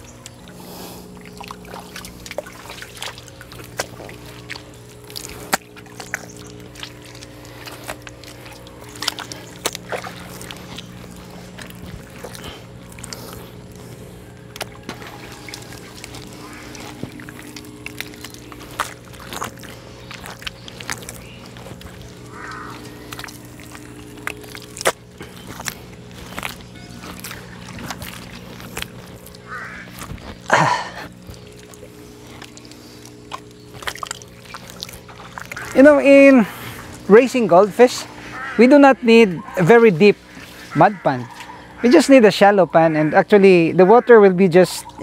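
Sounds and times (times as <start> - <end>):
small water splashes: 0.0 - 42.6
wet mud squelching: 0.0 - 45.0.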